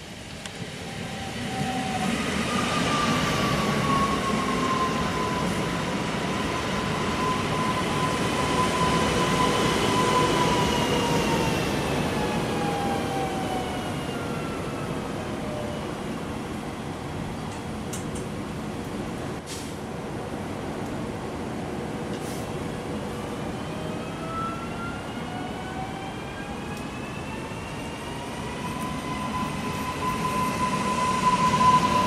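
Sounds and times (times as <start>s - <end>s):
electric train on rails: 0.0s - 32.0s.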